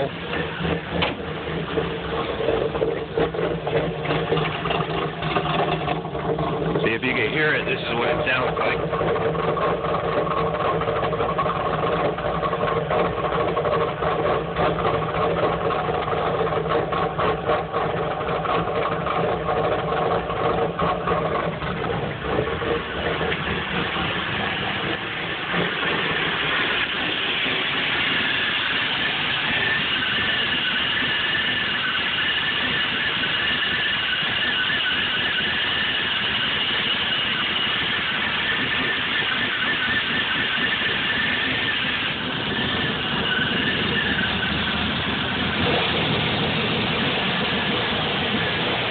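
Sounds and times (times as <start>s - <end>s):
car engine idling rough: 0.0s - 48.9s.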